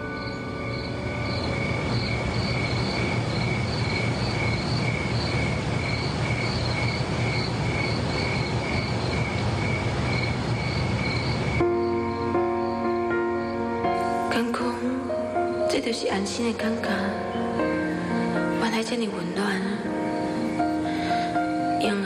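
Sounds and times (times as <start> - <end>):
crickets chirping: 0.0 - 22.0
steady hiss and low hum: 0.0 - 22.0.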